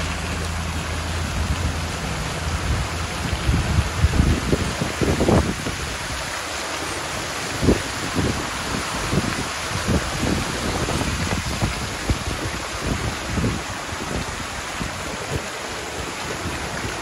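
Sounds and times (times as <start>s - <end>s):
fountain water splashing: 0.0s - 17.0s
wind buffeting microphone: 0.0s - 17.0s.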